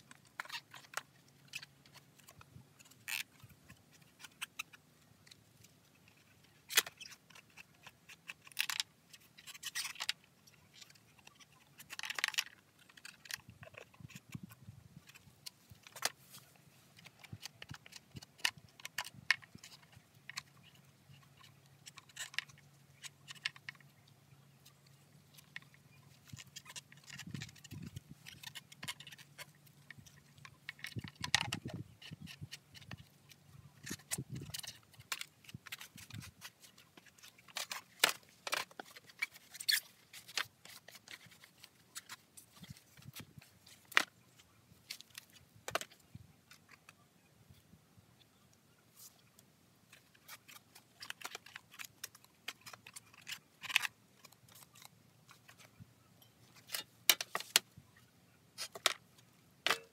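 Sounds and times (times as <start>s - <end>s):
small clicks and knocks: 0.0s - 47.6s, 48.5s - 59.9s.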